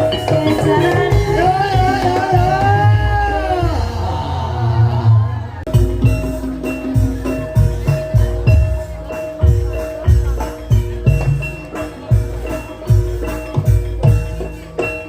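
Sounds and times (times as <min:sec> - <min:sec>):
deep drum beat: 0:00.0 - 0:15.0.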